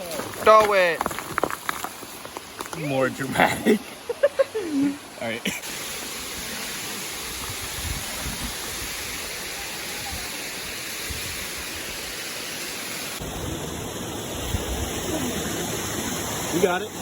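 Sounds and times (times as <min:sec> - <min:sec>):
waterfall rushing: 0:02.7 - 0:17.0.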